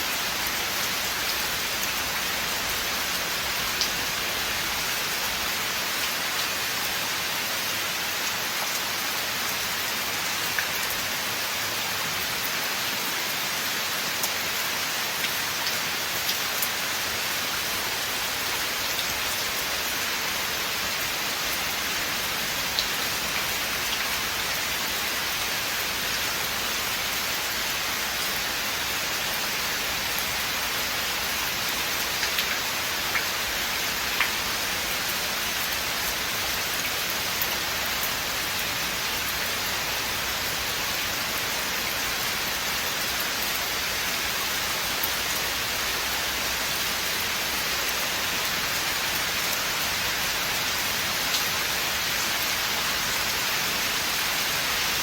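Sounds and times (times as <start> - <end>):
steady rain in forest: 0.0 - 55.0.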